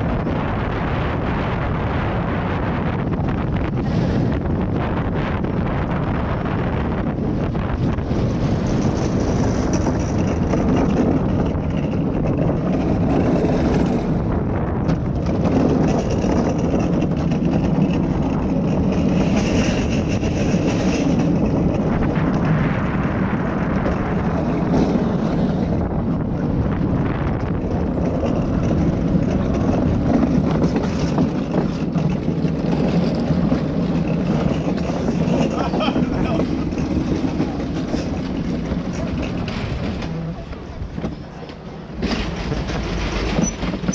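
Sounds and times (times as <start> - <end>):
luge cart wheels rumbling: 0.0 - 43.9
wind buffeting microphone: 0.0 - 43.9.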